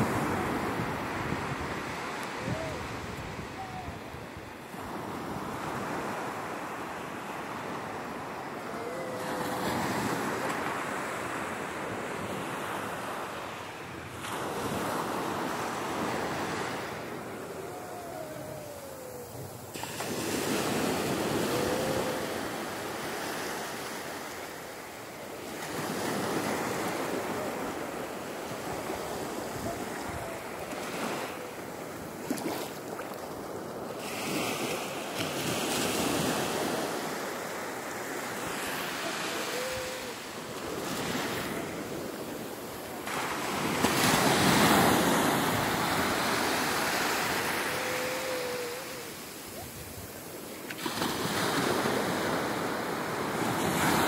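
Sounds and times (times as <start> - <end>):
small waves breaking on sand: 0.0 - 54.0.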